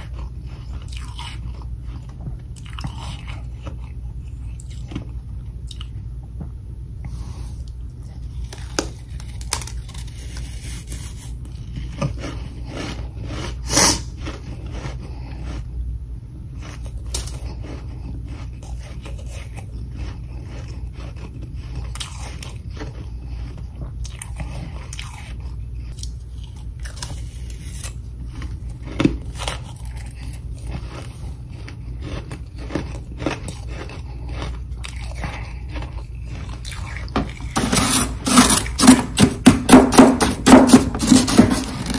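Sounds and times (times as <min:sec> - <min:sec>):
crunching frost while chewing: 0:00.0 - 0:06.2, 0:07.0 - 0:41.9
steady low hum: 0:00.0 - 0:41.9.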